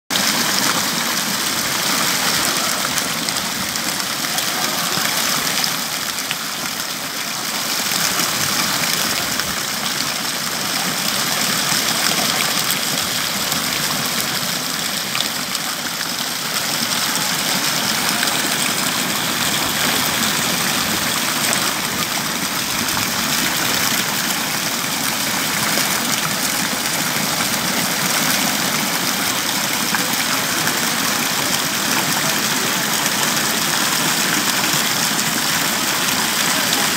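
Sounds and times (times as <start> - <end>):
fountain water splashing: 0.1 - 36.9.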